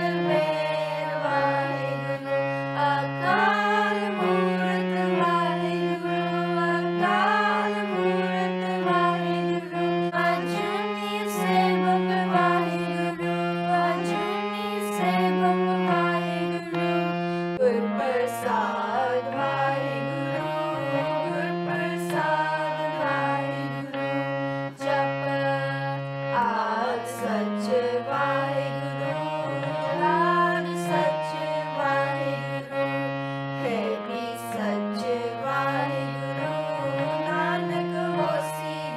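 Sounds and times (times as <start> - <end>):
harmonium chords and melody: 0.0 - 38.9
voices singing a hymn: 0.0 - 38.9.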